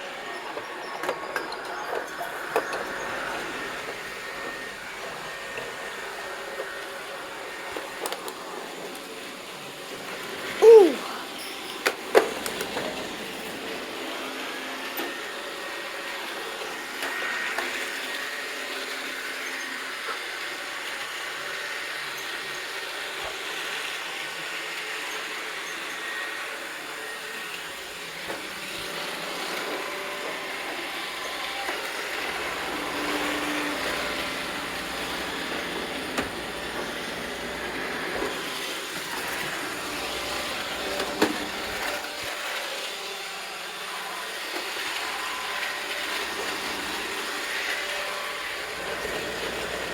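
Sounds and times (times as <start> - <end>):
robot vacuum cleaner whirring: 0.0 - 49.9.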